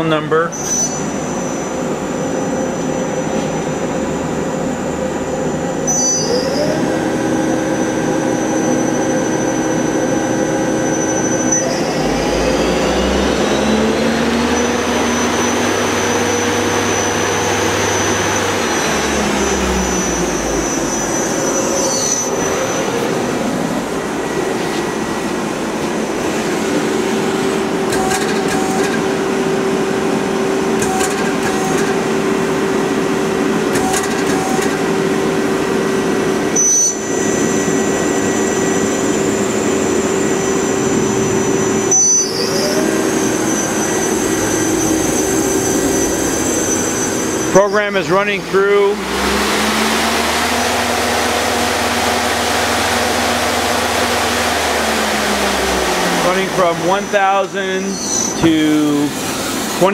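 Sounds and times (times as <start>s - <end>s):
spindle drive electric whine: 0.0s - 59.9s.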